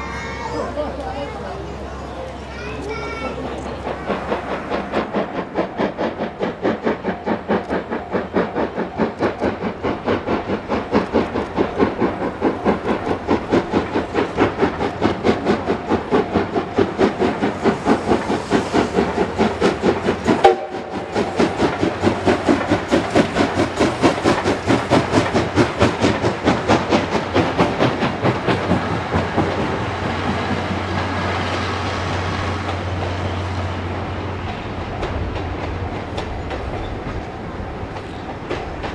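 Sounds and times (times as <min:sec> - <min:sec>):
steam locomotive chuffing: 0:00.0 - 0:38.9
train rolling rumble: 0:00.0 - 0:38.9.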